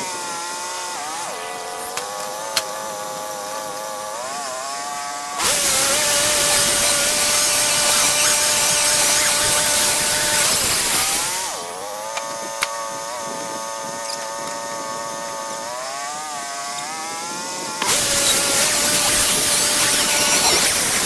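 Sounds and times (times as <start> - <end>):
saw cutting hiss: 0.0 - 12.4, 15.6 - 21.0
sawmill engine drone: 0.3 - 21.0.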